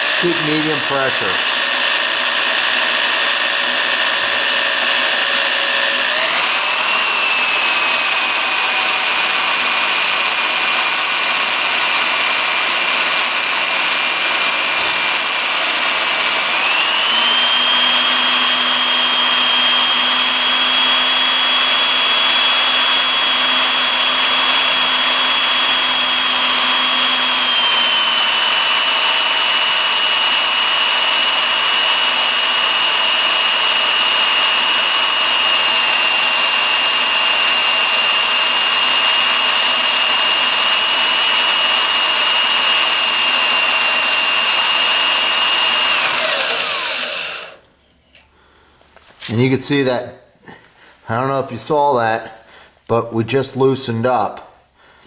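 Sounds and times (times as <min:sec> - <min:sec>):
electric drill motor whine: 0:00.0 - 0:47.7.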